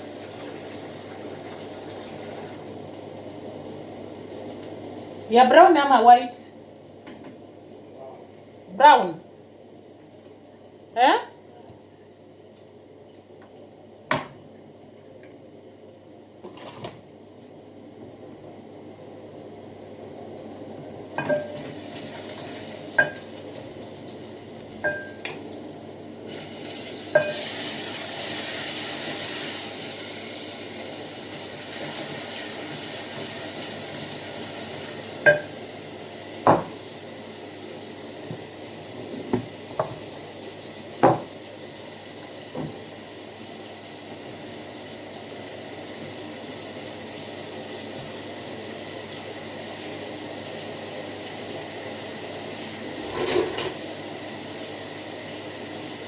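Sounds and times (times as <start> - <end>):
food sizzling in a pot: 0.0 - 17.9, 20.8 - 56.0.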